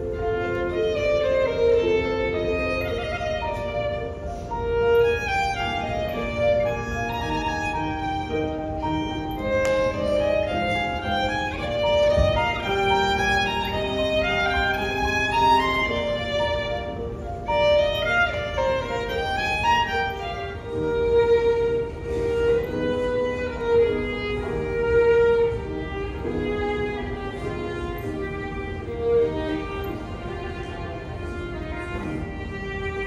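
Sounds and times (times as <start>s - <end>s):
violin playing held notes: 0.0s - 33.0s.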